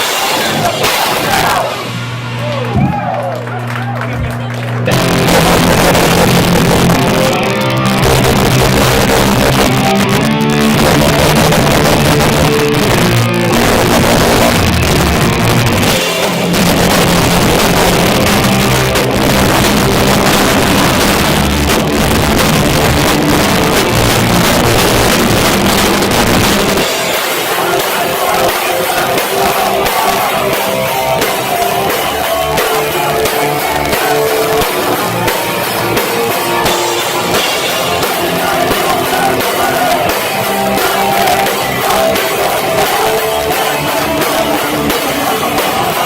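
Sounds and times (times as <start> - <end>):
bass guitar: 0.0 - 46.0
distorted electric guitars: 0.0 - 46.0
drum kit: 0.0 - 46.0.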